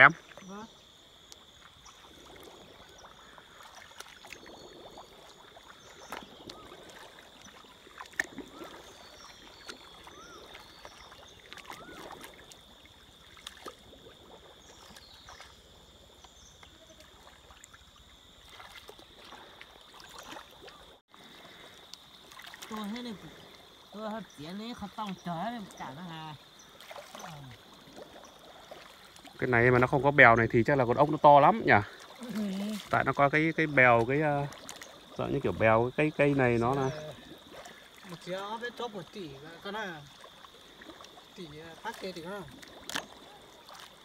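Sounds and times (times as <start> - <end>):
water sloshing and trickling: 0.0 - 44.0
small splashes and clicks: 1.2 - 30.2, 31.0 - 44.0.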